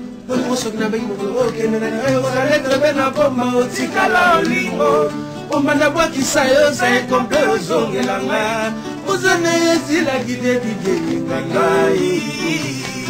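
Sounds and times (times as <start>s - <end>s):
acoustic guitars playing: 0.0s - 13.0s
man singing: 0.2s - 13.0s.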